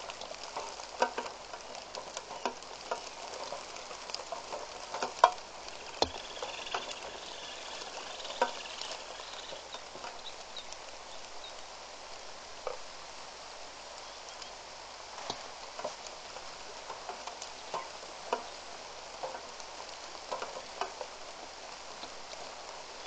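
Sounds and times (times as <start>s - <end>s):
raindrops tapping close by: 0.0s - 23.0s
steady rain: 0.0s - 23.0s.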